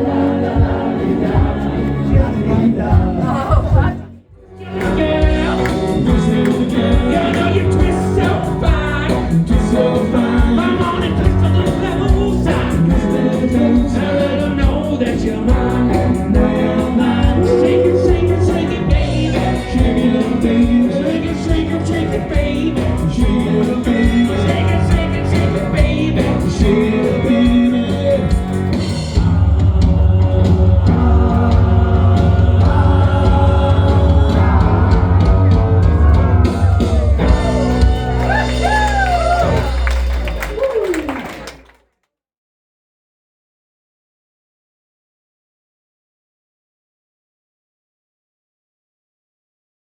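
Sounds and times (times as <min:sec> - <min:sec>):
live band with singer and guitar: 0:00.0 - 0:41.4.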